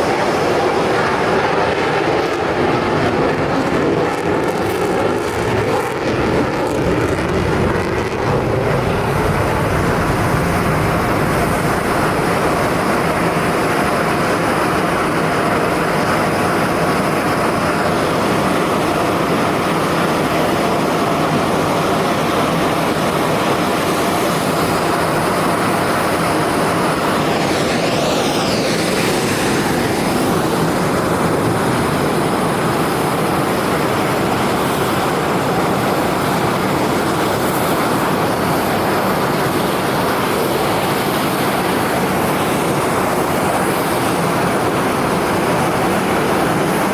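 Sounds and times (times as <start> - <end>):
jet passing overhead: 0.0 - 46.9.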